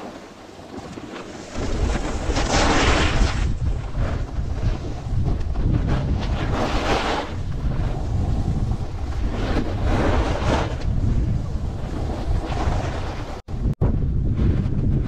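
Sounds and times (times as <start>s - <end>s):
snowboard scraping snow: 0.0s - 13.4s
wind buffeting microphone: 0.0s - 15.0s.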